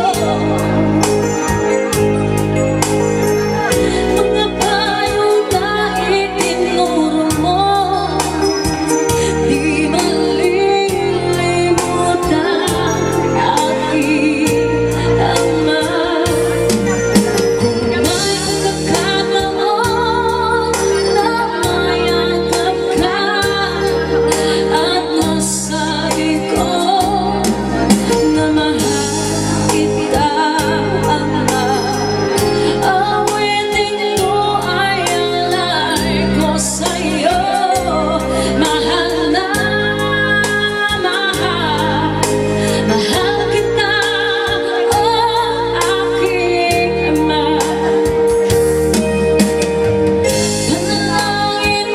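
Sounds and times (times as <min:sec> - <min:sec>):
song with singing and bass: 0:00.0 - 0:51.9.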